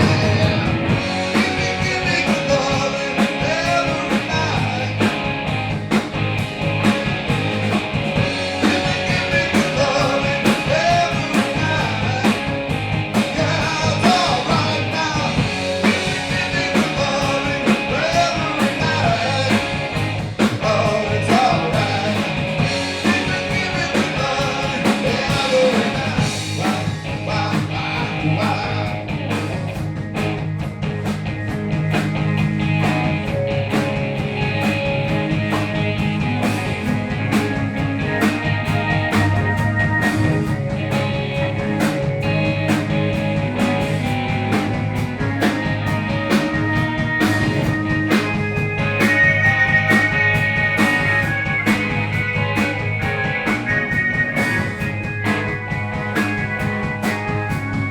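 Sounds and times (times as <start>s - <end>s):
blues-rock band playing: 0.0s - 57.9s.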